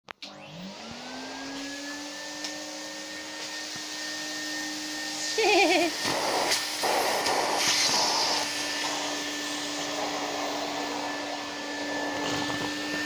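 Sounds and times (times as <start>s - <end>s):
vacuum cleaner running: 0.2s - 13.0s.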